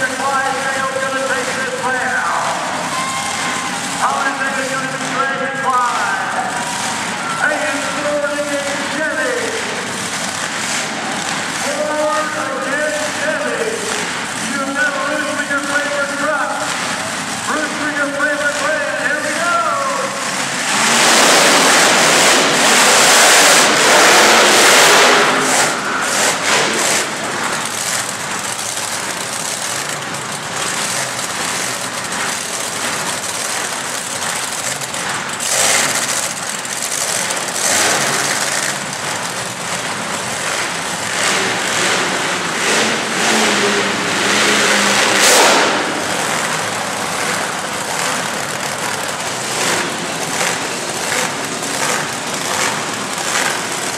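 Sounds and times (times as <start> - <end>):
monster truck engines revving: 0.0 - 53.9.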